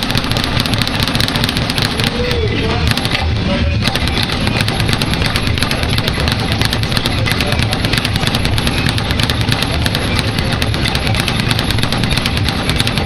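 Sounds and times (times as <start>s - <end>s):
speed bag being punched: 0.0s - 13.0s.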